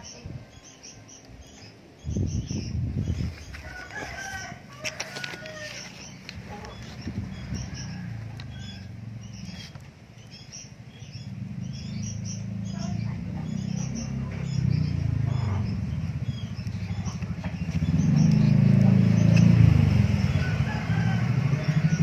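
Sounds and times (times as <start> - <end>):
young birds begging chirps: 0.0 - 22.0.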